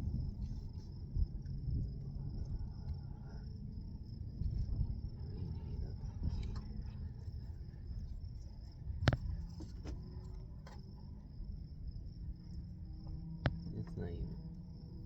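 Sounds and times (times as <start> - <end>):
insect trill: 0.0 - 15.0
low rumble: 0.0 - 15.0.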